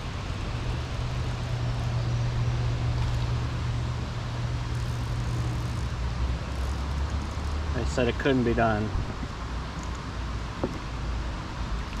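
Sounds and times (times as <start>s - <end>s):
distant engine drone: 0.0s - 11.6s
outdoor noise: 0.0s - 12.0s.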